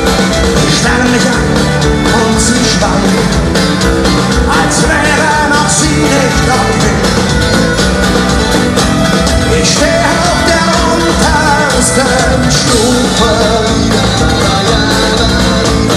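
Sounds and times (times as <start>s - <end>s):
folk metal band playing live: 0.0s - 15.9s
violin melody: 0.0s - 15.9s.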